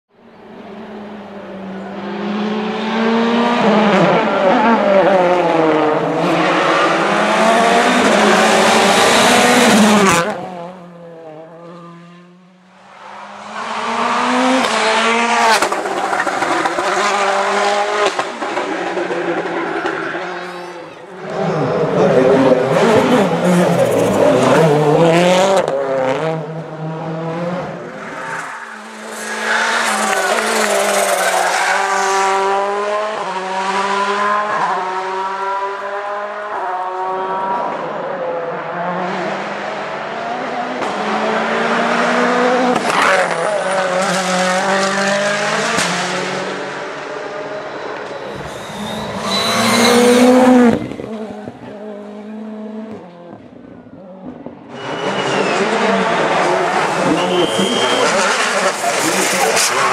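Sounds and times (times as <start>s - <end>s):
rally cars accelerating past: 0.6s - 20.4s, 21.2s - 59.9s.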